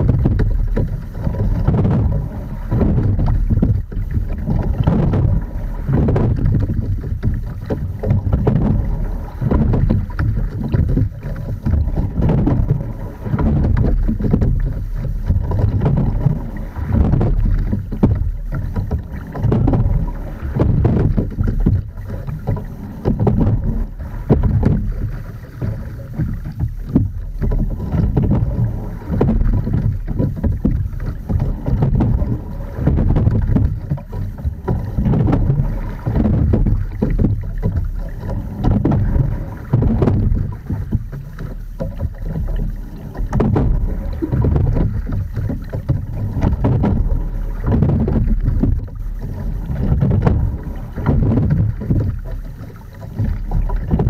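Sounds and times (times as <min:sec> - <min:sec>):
wind buffeting microphone: 0:00.0 - 0:41.2, 0:41.8 - 0:54.0
knocks from oars and rigging: 0:00.0 - 0:54.0
oars working through water: 0:00.0 - 0:54.0
water washing along boat hull: 0:00.0 - 0:54.0.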